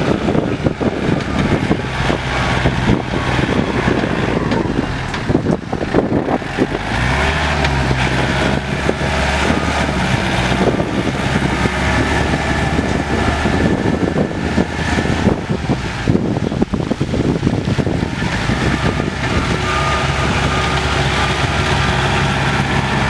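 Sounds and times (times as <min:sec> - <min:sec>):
diesel tractor engines running: 0:00.0 - 0:23.0.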